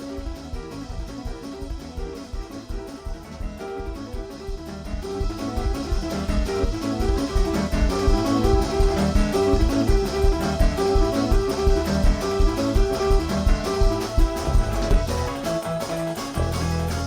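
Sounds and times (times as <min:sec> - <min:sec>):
instrumental music with steady beat: 0:00.0 - 0:17.0.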